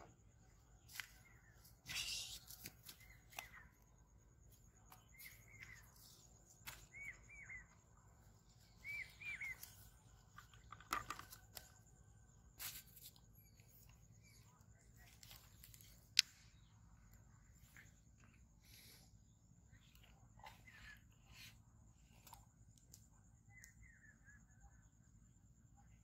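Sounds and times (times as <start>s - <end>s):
small bird chirping: 0.0s - 26.0s.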